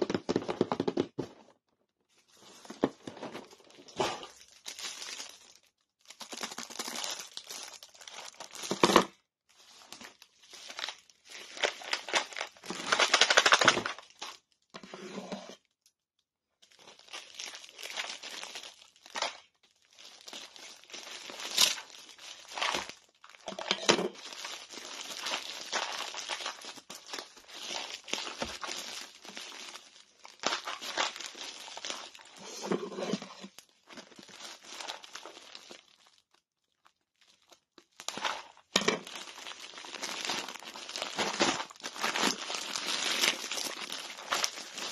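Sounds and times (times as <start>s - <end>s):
plastic packaging crinkling: 2.3s - 9.0s, 9.6s - 14.6s, 16.6s - 44.9s.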